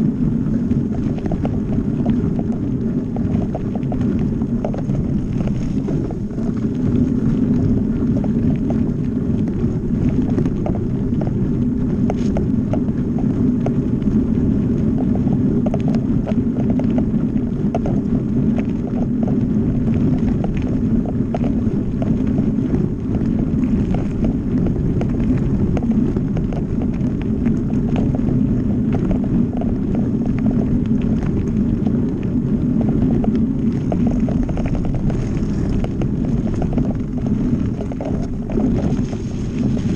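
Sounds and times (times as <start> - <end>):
bike rattling over bumps: 0.0 - 39.9
bike tyres rumbling on gravel: 0.0 - 39.9
wind buffeting microphone: 0.0 - 39.9.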